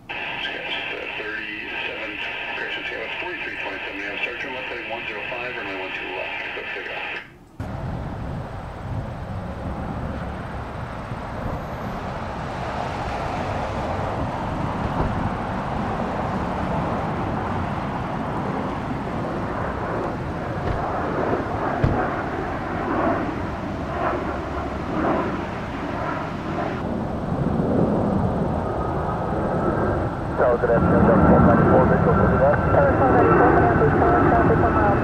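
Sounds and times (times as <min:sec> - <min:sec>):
jet engine rushing: 0:00.0 - 0:35.0.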